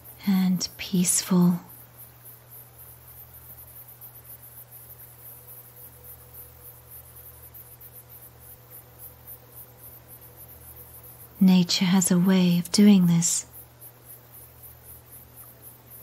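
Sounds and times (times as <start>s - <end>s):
crickets chirping: 0.0s - 16.0s
faint low hum: 0.0s - 16.0s.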